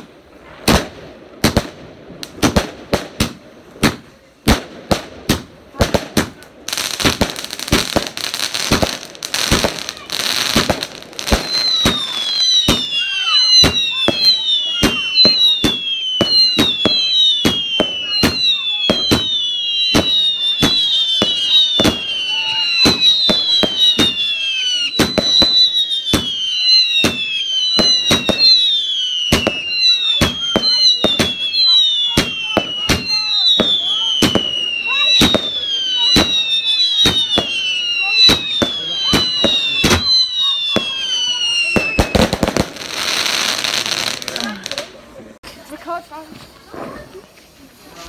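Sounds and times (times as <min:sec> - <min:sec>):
whistling fireworks: 0:00.0 - 0:45.1
fireworks banging and crackling: 0:00.0 - 0:48.0.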